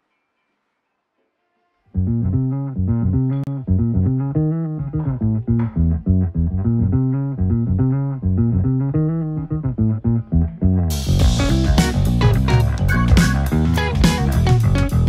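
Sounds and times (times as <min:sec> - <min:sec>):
plucked guitar and bass music: 0:01.9 - 0:15.0.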